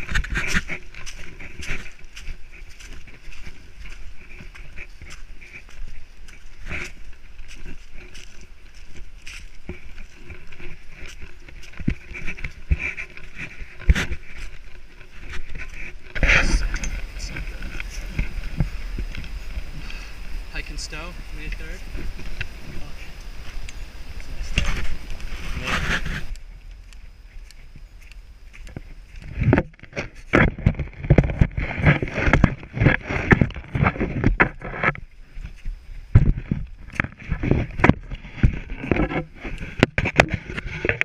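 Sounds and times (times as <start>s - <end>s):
footsteps on dry leaves: 0.0s - 40.9s
wind buffeting microphone: 0.0s - 41.0s.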